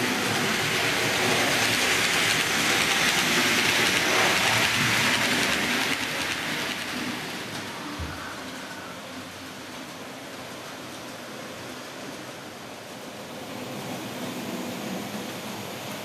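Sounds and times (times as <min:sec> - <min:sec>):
model train wheels on rail: 0:00.0 - 0:16.0.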